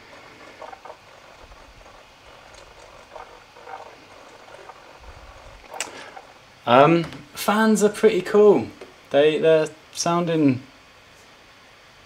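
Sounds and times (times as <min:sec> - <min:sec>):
laptop fans hissing: 0:00.0 - 0:10.2.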